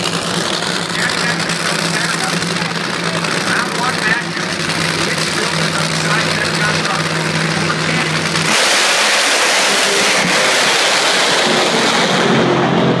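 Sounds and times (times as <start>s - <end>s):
drag racer engines at full throttle: 0.0s - 13.0s.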